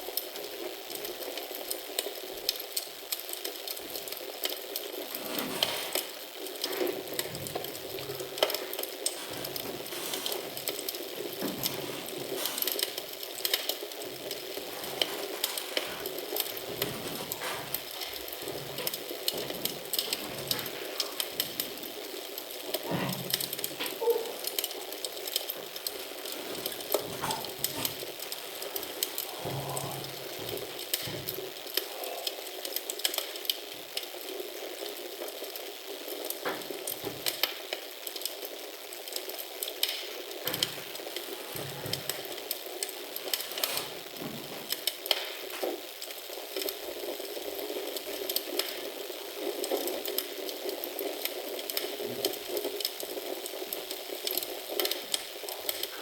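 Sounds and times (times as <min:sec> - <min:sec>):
soft hiss of fire: 0:00.0 - 0:56.0
wood fire crackling: 0:00.0 - 0:56.0
sharp pops of fire: 0:00.2 - 0:56.0.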